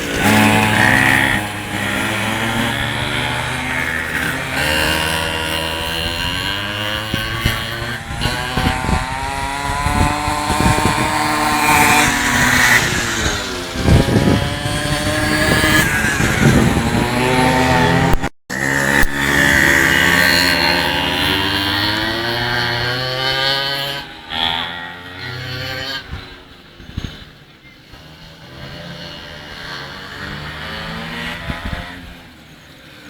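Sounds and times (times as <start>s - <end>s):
pocket bike engines racing: 0.0s - 33.0s.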